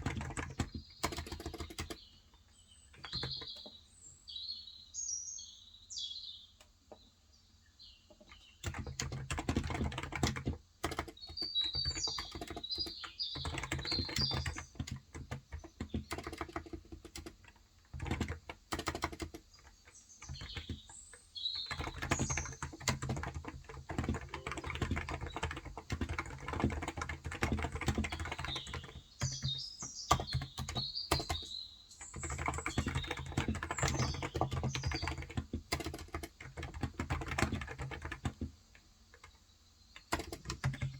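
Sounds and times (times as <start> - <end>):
keyboard typing: 0.0 - 2.1, 2.9 - 3.7, 8.3 - 39.4, 40.0 - 40.9
birds chirping: 0.0 - 9.0, 11.0 - 17.3, 18.9 - 38.4, 39.2 - 40.9.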